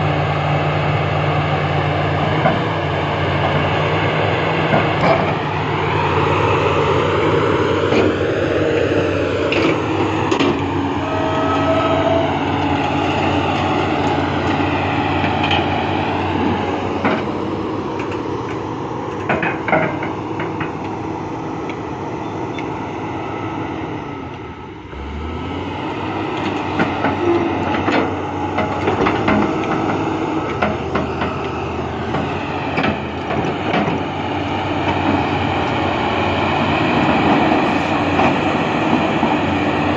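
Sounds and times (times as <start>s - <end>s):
excavator diesel engine running: 0.0s - 39.9s
hydraulics whining: 2.0s - 39.9s.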